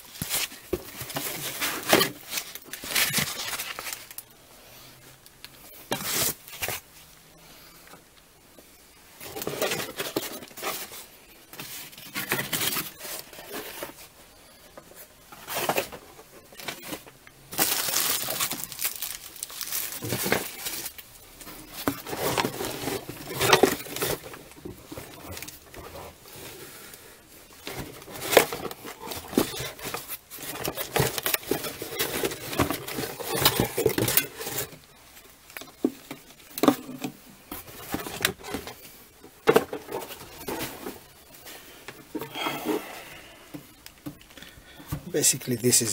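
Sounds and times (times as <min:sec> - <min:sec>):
cardboard box rustling and crinkling: 0:00.0 - 0:04.2, 0:05.8 - 0:06.9, 0:09.2 - 0:42.9.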